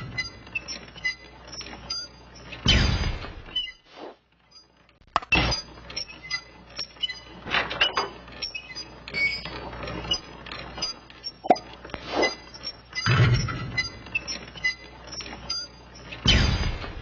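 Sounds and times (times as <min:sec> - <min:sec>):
creaks: 0:00.0 - 0:17.0.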